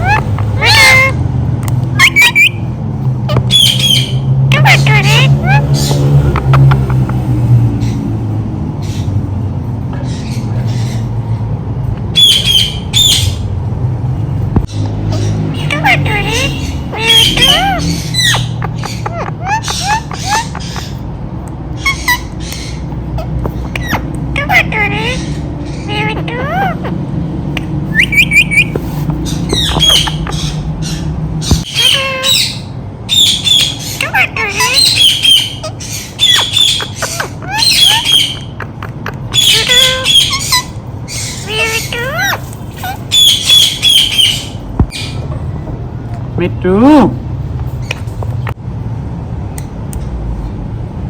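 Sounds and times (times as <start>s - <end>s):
parakeet squawking: 0.0s - 8.1s, 9.9s - 13.5s, 14.6s - 45.8s.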